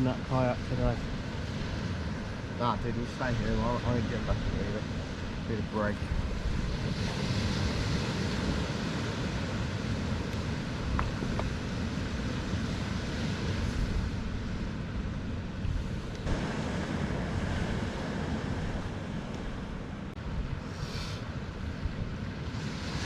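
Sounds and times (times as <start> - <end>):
surf breaking on a beach: 0.0 - 23.0
wind buffeting microphone: 0.0 - 23.0.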